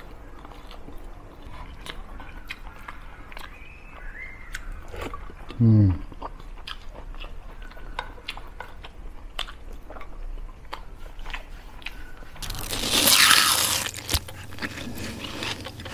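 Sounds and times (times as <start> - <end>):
chewing and crunching food: 0.0 - 15.9.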